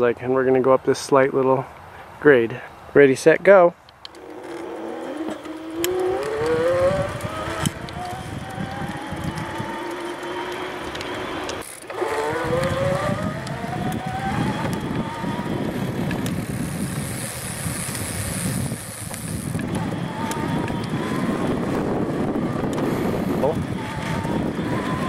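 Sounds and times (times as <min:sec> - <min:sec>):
wind: 0:00.0 - 0:25.0
electric motor whining: 0:04.1 - 0:25.0.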